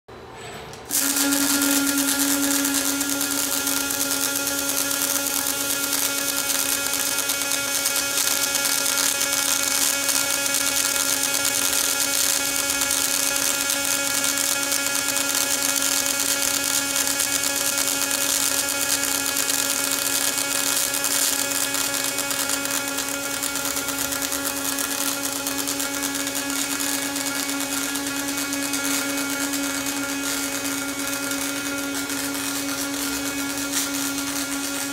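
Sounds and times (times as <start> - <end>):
welding arc hissing buzz: 0.9 - 34.9.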